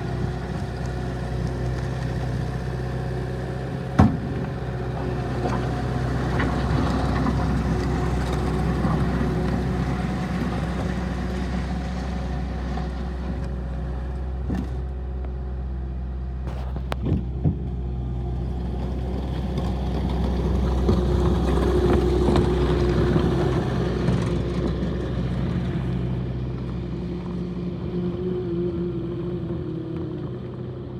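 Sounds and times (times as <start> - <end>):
loader diesel engine running: 0.0 - 30.9.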